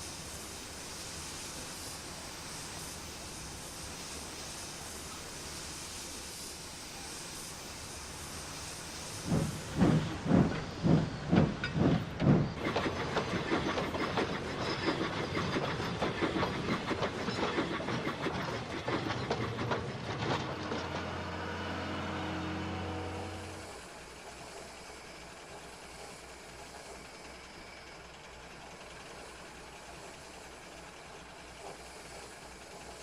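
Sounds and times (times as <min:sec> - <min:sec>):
steam locomotive exhaust chuffs: 0:00.0 - 0:33.0
steam locomotive hissing: 0:00.0 - 0:33.0.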